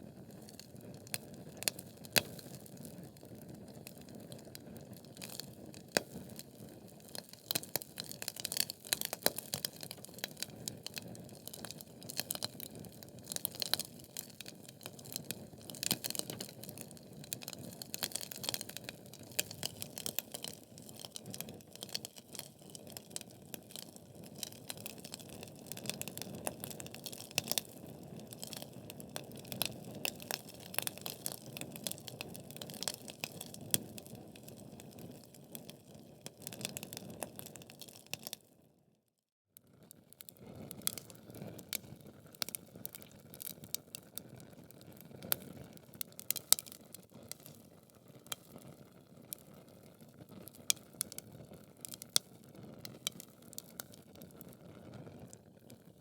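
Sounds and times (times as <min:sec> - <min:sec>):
fire crackling and popping: 0:00.0 - 0:38.5, 0:40.1 - 0:56.0.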